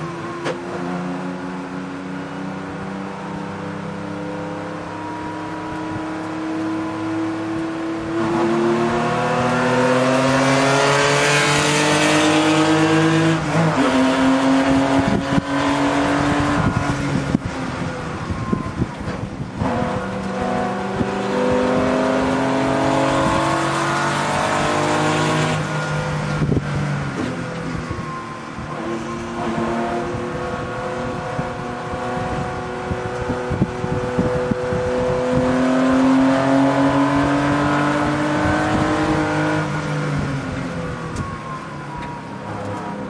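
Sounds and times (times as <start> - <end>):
race car engine accelerating: 0.0 - 43.0.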